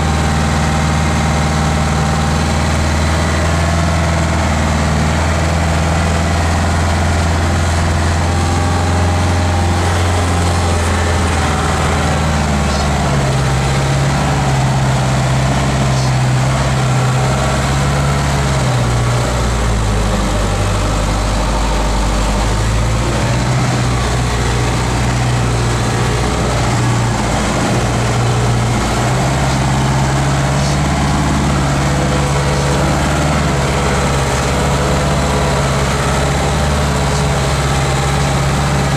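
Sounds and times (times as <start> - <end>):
diesel engine drone from cab: 0.0 - 38.9.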